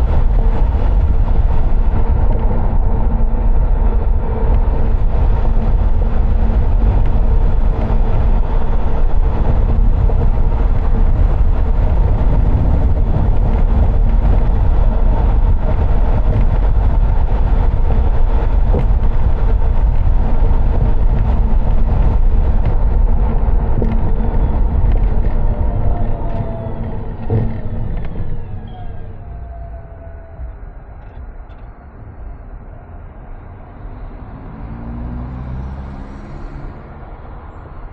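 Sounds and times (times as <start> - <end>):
constant low hum: 0.0 - 34.6
car engine and road rumble: 0.0 - 37.9.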